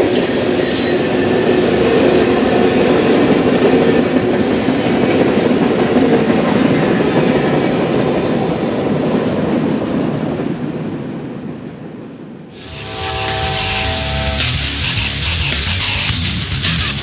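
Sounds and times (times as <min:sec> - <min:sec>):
train cars rumbling past: 0:00.0 - 0:17.0.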